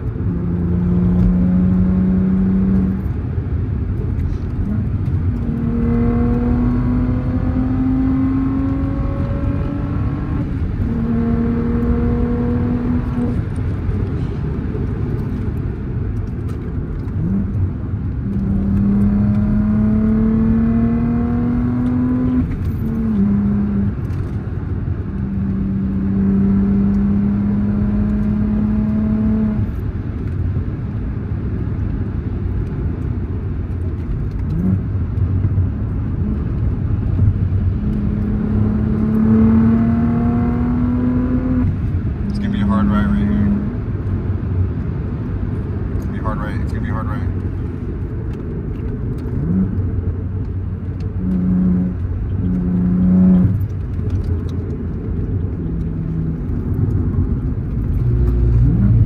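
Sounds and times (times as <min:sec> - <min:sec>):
car engine accelerating: 0:00.0 - 0:59.0
low road rumble: 0:00.0 - 0:59.0.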